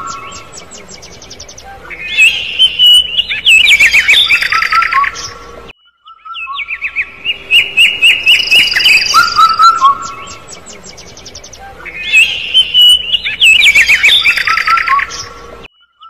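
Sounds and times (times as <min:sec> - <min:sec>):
young birds chirping: 0:00.0 - 0:16.0.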